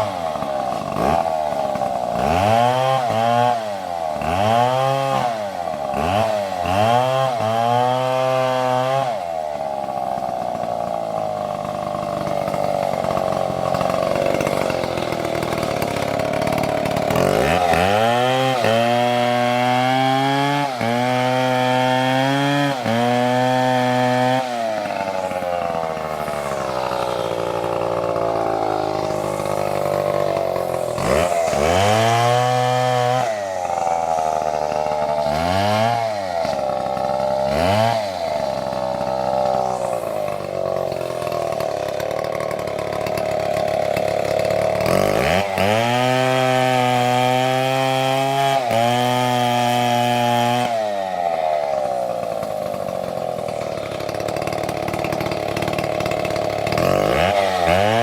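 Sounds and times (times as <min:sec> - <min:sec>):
chainsaw cutting into tree: 0:00.0 - 0:58.0.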